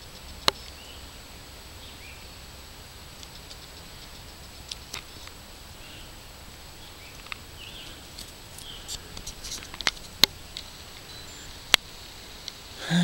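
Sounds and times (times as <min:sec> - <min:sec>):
faint bird chirps: 0:00.0 - 0:02.5, 0:03.2 - 0:09.8, 0:10.4 - 0:13.0.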